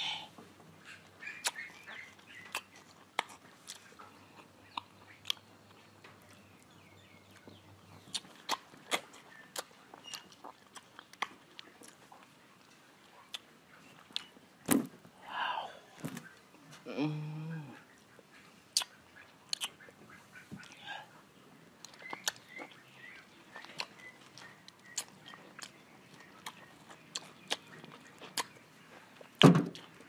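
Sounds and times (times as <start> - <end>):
chewing mango: 0.8 - 14.7, 16.1 - 30.0.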